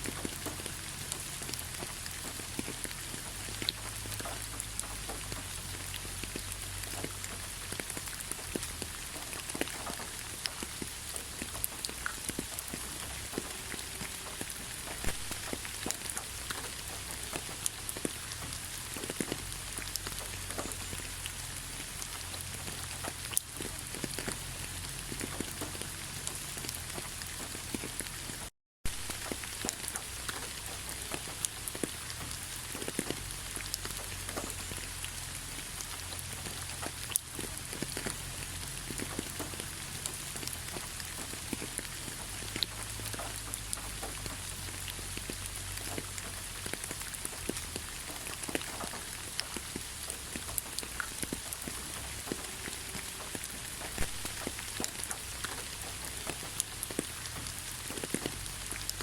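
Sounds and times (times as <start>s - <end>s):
raindrop ticks: 0.0s - 59.0s
steady rain hiss: 0.0s - 59.0s.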